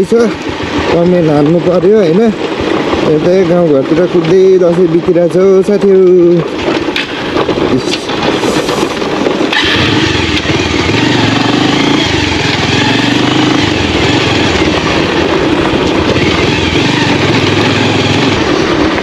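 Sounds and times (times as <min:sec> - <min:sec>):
motorcycle engine running: 0:00.0 - 0:05.6, 0:09.3 - 0:19.0.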